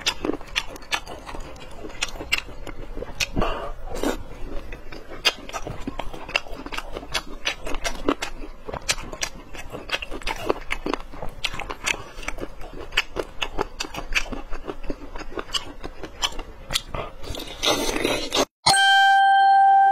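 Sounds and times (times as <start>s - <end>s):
wet chewing and biting: 0.0s - 18.5s.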